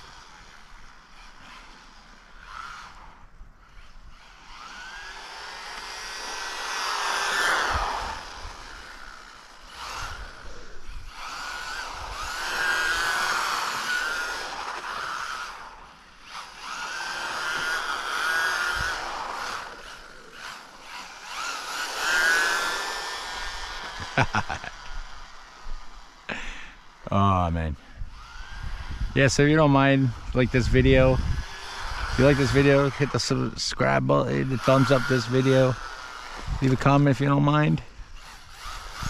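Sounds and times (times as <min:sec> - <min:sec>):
rc car electric motor whine: 0:00.0 - 0:39.0.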